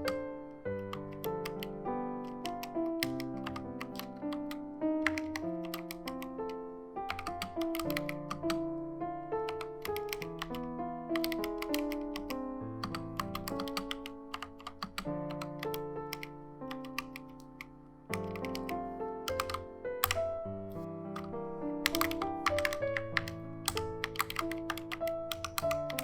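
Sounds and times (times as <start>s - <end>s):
mechanical keyboard clacks: 0.0s - 8.6s, 9.5s - 10.6s, 11.2s - 20.3s, 21.2s - 26.0s
background piano music: 0.0s - 26.0s.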